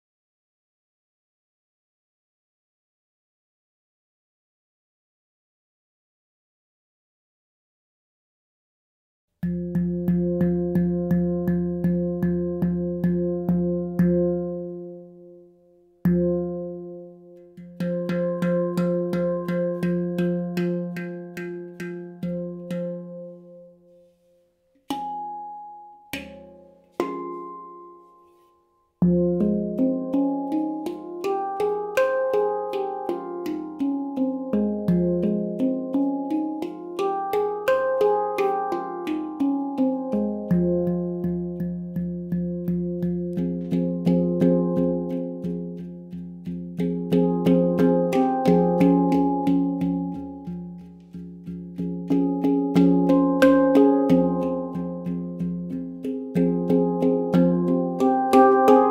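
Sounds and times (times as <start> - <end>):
handpan played by hand: 9.4 - 15.4, 16.0 - 23.9, 24.8 - 58.9.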